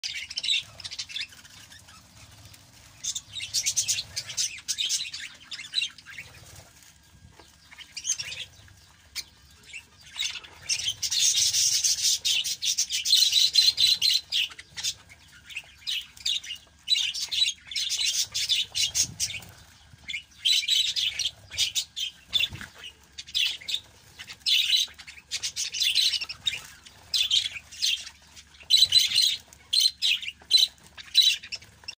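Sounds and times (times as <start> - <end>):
budgerigars chattering and chirping: 0.0 - 32.0.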